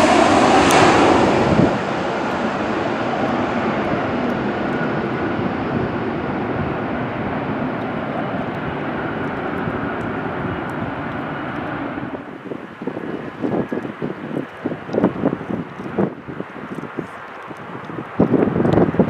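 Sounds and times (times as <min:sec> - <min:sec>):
jet airliner roaring past: 0:00.0 - 0:19.0.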